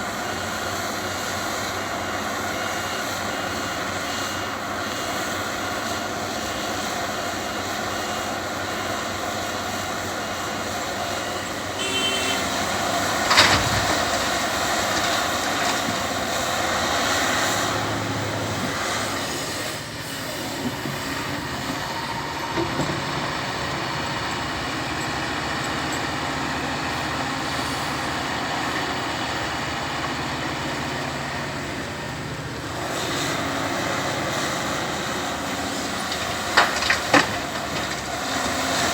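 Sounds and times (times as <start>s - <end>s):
excavator running: 0.0s - 38.9s.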